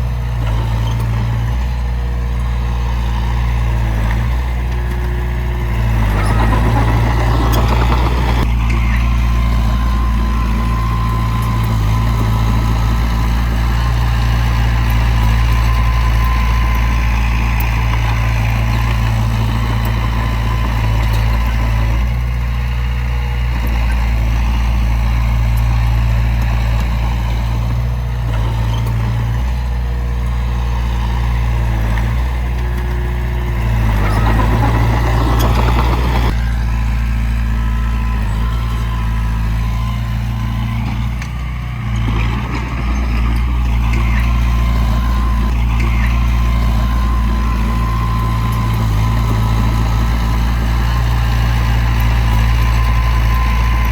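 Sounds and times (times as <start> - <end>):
heavy diesel engine humming: 0.0 - 53.9.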